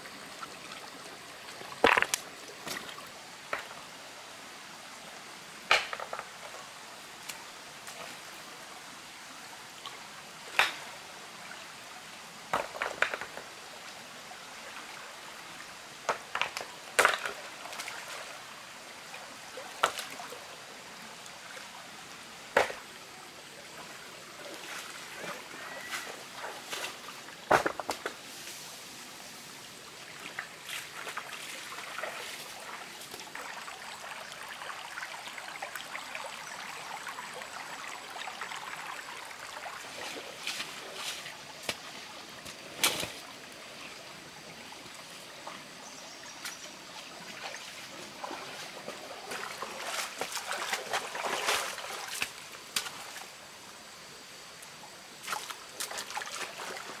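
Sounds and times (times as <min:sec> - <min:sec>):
stream trickling over rocks: 0:00.0 - 0:57.0.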